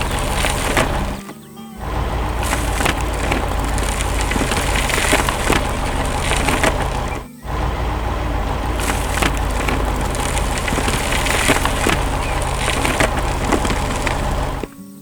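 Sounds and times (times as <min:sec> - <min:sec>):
excavator engine running: 0:00.0 - 0:01.2, 0:01.8 - 0:14.8
wood cracking and splintering: 0:00.0 - 0:01.2, 0:01.8 - 0:14.8.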